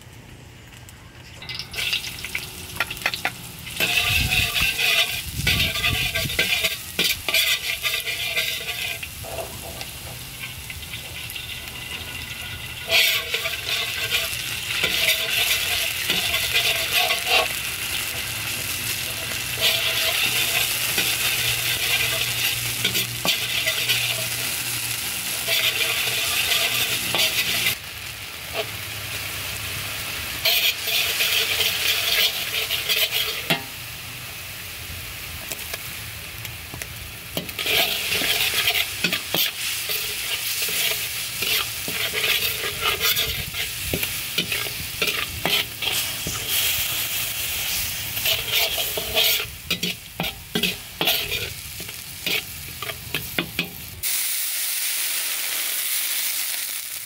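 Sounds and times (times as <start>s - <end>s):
metal ladle scraping a wok: 1.4s - 27.8s, 28.5s - 28.8s, 30.2s - 33.7s, 37.3s - 54.0s
food sizzling in hot oil: 1.4s - 57.0s.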